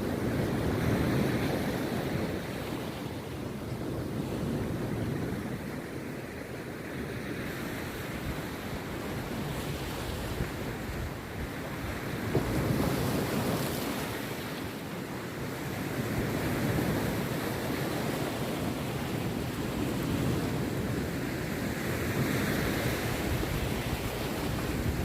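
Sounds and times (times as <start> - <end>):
sea surf breaking on a beach: 0.0 - 25.0
wind noise on microphone: 0.0 - 25.0.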